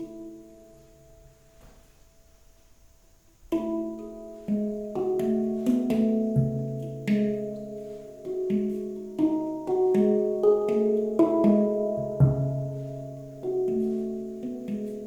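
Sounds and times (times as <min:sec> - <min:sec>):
handpan melody: 0:00.0 - 0:01.4, 0:03.5 - 0:15.0.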